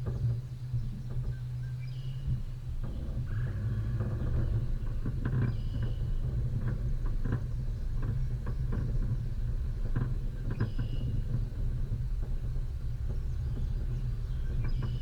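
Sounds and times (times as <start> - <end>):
vehicle engine and tyres rumbling: 0.0 - 15.0
vehicle knocks and rattles: 0.0 - 15.0.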